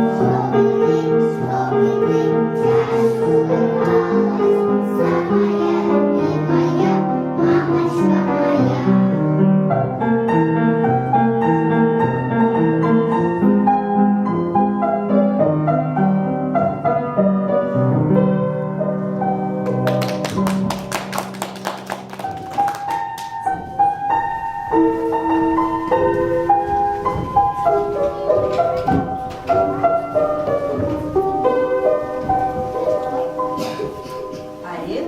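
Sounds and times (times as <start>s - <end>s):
piano music with bass line: 0.0s - 35.0s.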